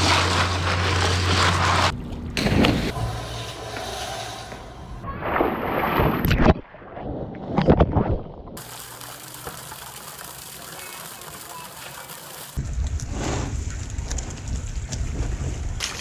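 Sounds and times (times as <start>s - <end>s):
outdoor noise: 0.0s - 16.0s.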